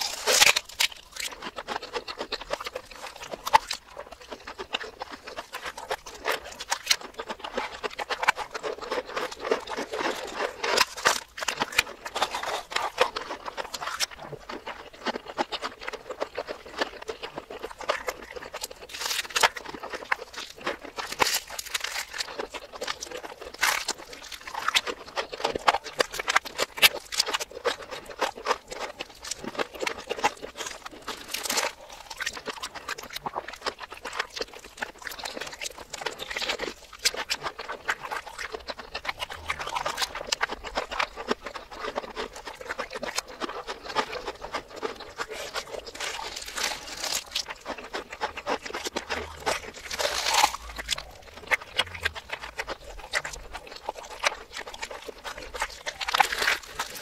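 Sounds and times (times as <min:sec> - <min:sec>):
reversed chewing and crunching: 0:00.0 - 0:57.0.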